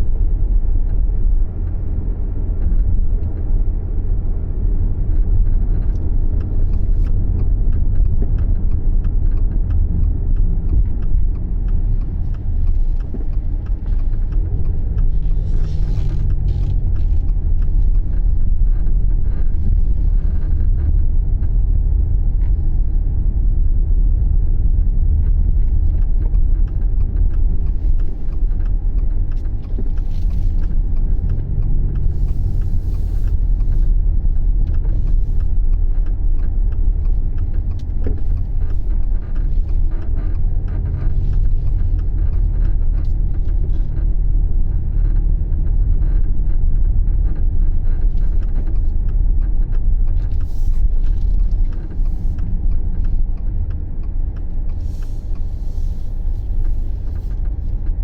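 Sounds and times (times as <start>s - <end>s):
car driving rumble: 0.0s - 58.0s
light ticks and clicks: 4.8s - 58.0s.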